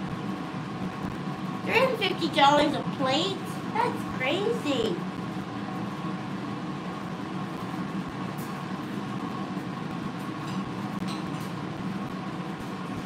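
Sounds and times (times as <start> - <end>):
faint constant whine: 0.0 - 13.0
mechanical hum and hiss: 0.0 - 13.0.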